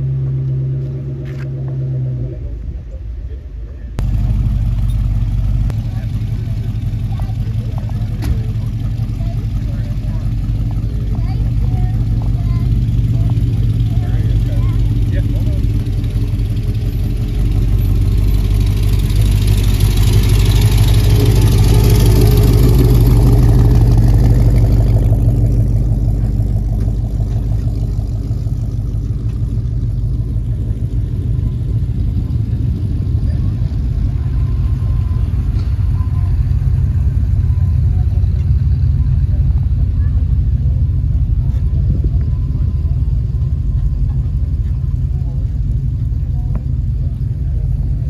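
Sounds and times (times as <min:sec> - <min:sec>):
car engines rumbling past: 0:00.0 - 0:48.0.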